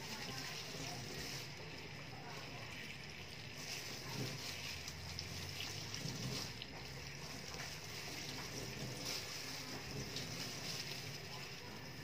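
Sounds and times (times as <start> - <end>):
sponge being squeezed and rinsed: 0.0 - 12.0
tap water running into a sink: 0.0 - 12.0.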